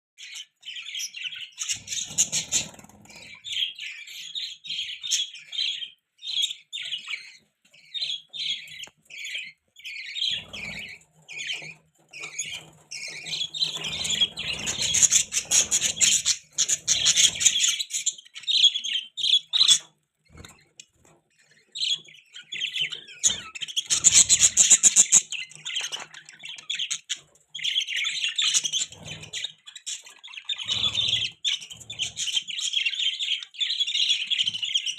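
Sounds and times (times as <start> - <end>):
budgies chirping and chattering: 0.2 - 34.9.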